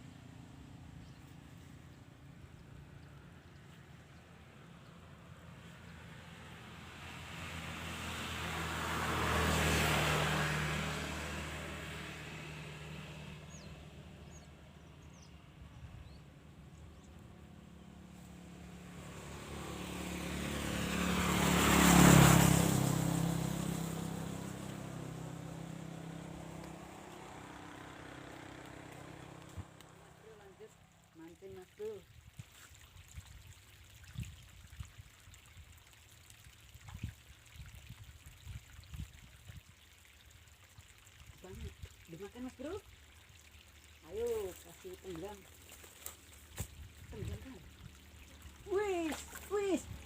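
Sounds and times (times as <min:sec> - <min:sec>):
motor vehicles driving past: 0:00.0 - 0:32.2, 0:39.0 - 0:50.0.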